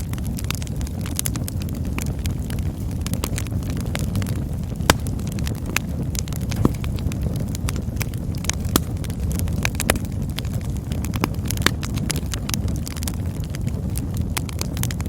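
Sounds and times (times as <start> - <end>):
campfire roar: 0.0 - 15.0
fire crackles and pops: 0.0 - 15.0.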